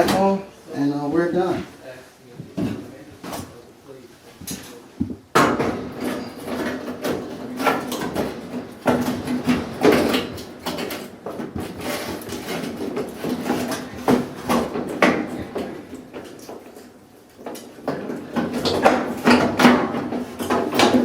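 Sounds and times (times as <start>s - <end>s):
dryer knocks and clatter: 0.0s - 0.4s, 2.4s - 3.6s, 4.4s - 21.0s
clothes dryer humming: 0.0s - 21.0s.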